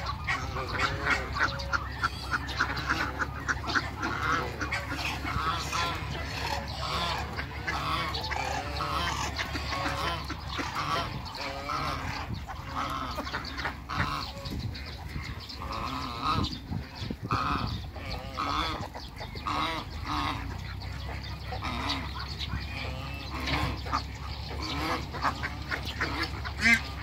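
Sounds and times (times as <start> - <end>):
ducks quacking: 0.0 - 27.0
geese honking: 0.0 - 27.0.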